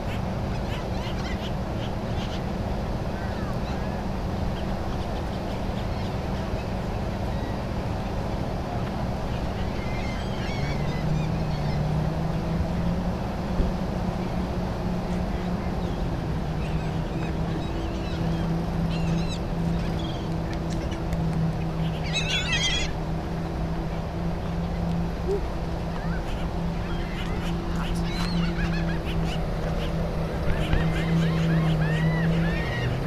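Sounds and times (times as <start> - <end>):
birds chirping: 0.0 - 8.2, 9.1 - 13.0, 14.1 - 33.0
low engine hum: 0.0 - 33.0.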